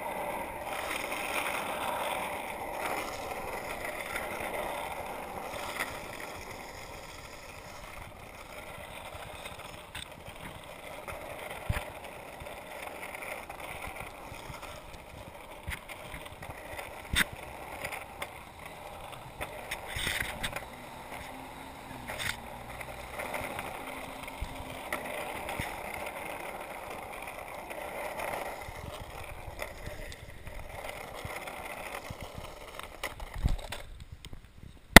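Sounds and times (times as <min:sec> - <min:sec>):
wheels rolling over asphalt: 0:00.0 - 0:35.0.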